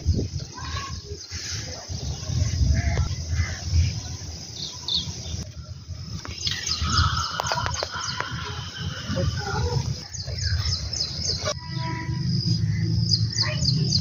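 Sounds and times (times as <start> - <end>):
wind rumble on microphone: 0.0 - 11.6
birds chirping: 0.0 - 14.0.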